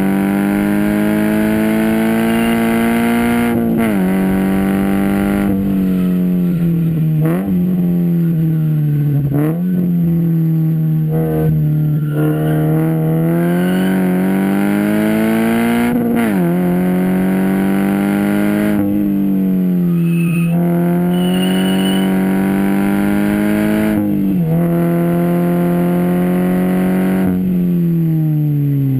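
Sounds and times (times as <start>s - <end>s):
car engine revving under load: 0.0s - 27.6s.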